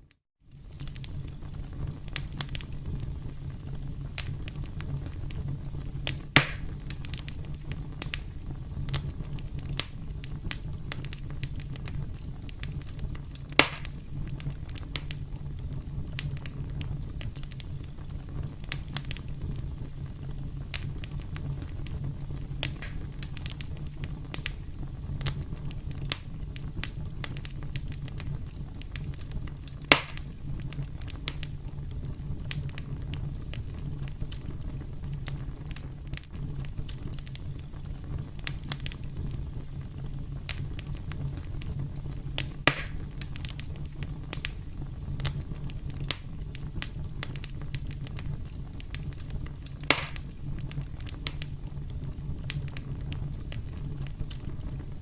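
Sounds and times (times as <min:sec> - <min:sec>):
low fire rumble: 0:00.0 - 0:55.0
wood fire crackling: 0:00.0 - 0:55.0
loud fire pops: 0:00.5 - 0:55.0.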